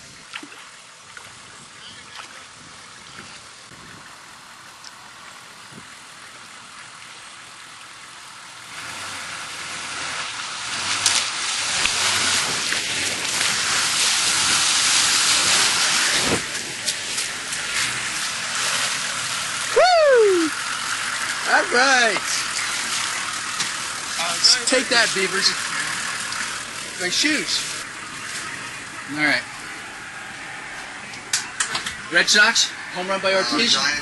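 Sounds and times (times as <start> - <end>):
bus splashing through floodwater: 0.0 - 34.0.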